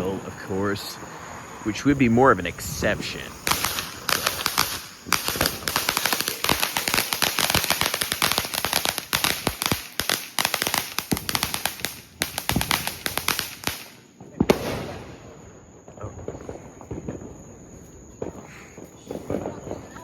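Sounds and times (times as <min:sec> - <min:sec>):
fireworks popping and cracking: 0:02.6 - 0:20.0.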